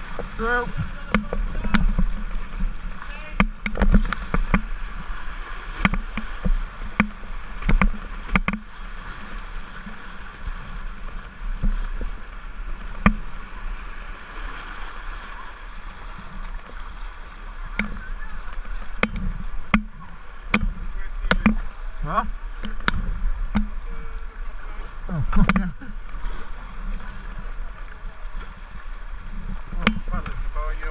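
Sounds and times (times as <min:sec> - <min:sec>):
paddle splashes and knocks: 0:00.0 - 0:30.9
river water rushing: 0:00.0 - 0:30.9.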